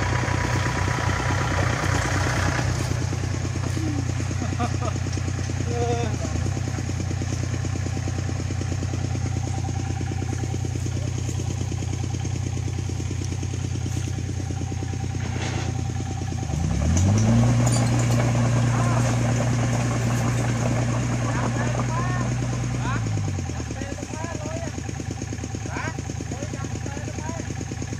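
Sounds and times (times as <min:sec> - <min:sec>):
diesel engine idling and revving: 0:00.0 - 0:27.9.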